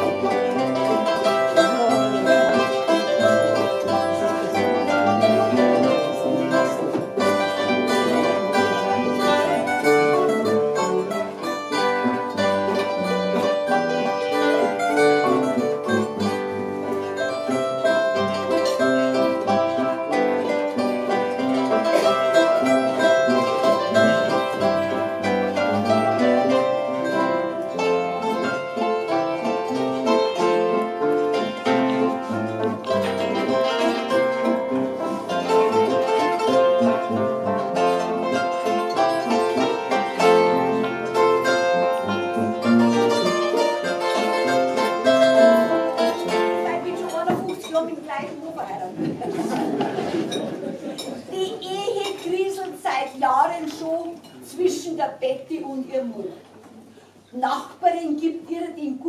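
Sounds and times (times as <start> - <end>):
zither playing folk tune: 0.0 - 57.1
guitar playing folk tune: 0.0 - 59.0.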